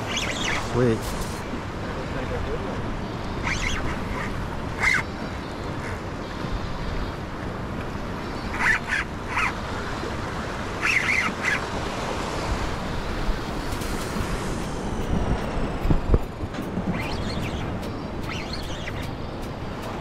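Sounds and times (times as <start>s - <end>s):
surf washing: 0.0s - 20.0s
wind buffeting microphone: 0.0s - 20.0s.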